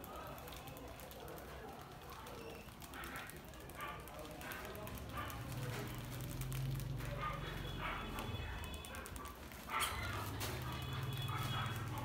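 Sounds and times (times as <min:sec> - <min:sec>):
rats squeaking: 0:00.4 - 0:12.0.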